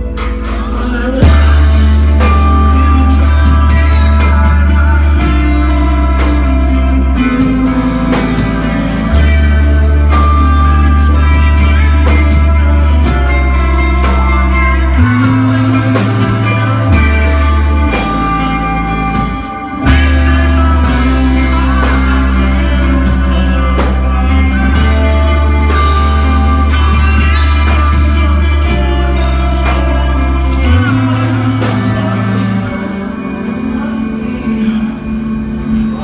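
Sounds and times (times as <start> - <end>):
drum kit: 0.0 - 36.0
electric guitars: 0.0 - 36.0
heavy bass line: 0.0 - 36.0
rock band playing live: 0.0 - 36.0.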